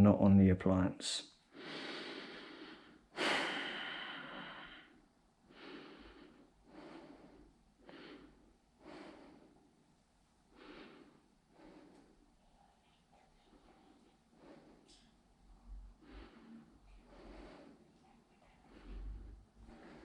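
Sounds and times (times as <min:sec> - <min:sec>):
person breathing: 0:01.5 - 0:09.9, 0:10.5 - 0:20.0.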